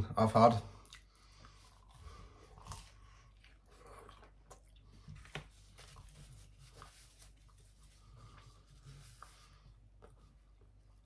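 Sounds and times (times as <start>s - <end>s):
person chewing food: 0.7s - 11.0s.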